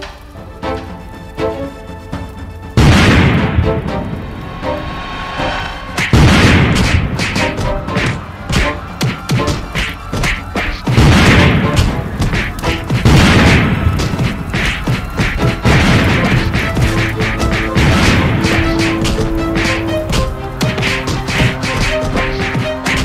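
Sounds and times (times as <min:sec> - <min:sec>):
dramatic background music: 0:00.0 - 0:23.0
cannon fire and explosions: 0:02.8 - 0:23.0.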